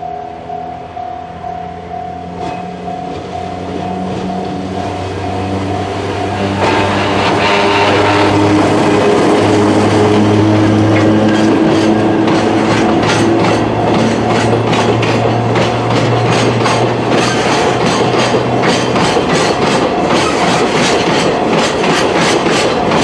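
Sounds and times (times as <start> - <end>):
train wheels clacking over rail joints: 2.3 - 23.0.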